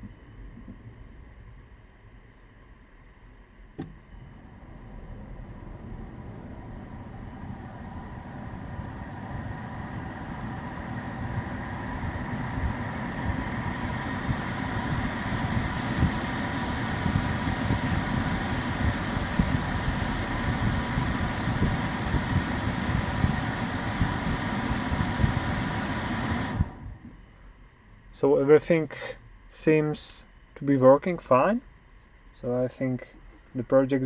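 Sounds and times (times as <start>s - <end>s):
air-conditioning fan whining: 0.0s - 34.0s.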